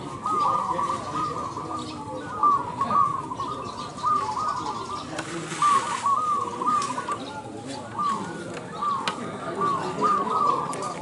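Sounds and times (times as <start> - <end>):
doves cooing: 0.0 - 11.0.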